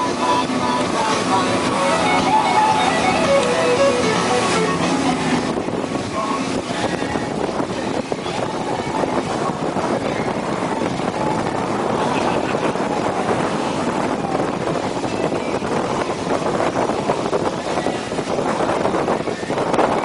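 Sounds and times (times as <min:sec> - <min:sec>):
motorboat engine and hull noise: 0:00.0 - 0:20.0
wind buffeting microphone: 0:03.2 - 0:20.0.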